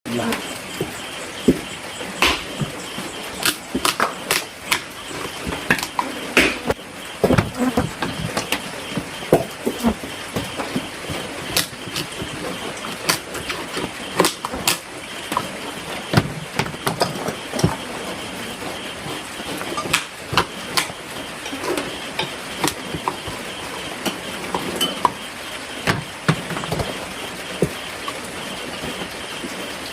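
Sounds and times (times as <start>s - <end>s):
raindrops tapping hard surfaces: 0.1s - 29.9s.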